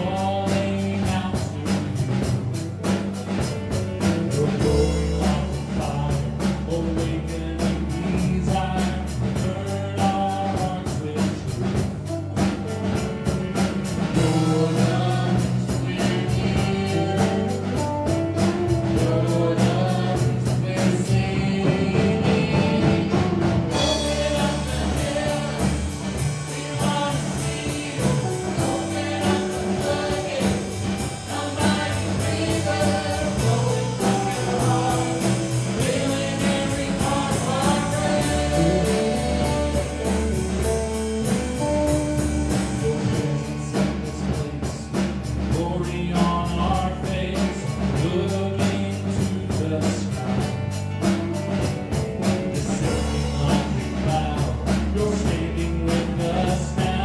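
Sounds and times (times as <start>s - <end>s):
person singing: 0.0s - 2.2s, 4.0s - 12.6s, 14.0s - 50.7s, 52.3s - 57.0s
band playing bass drums and guitar: 0.0s - 57.0s.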